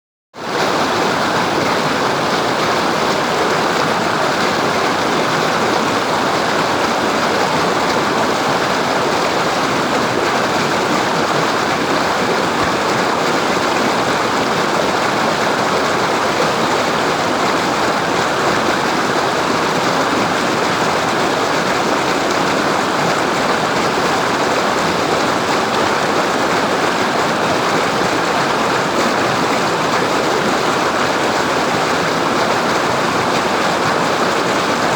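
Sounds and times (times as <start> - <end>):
waterfall roaring: 0.4 - 34.9.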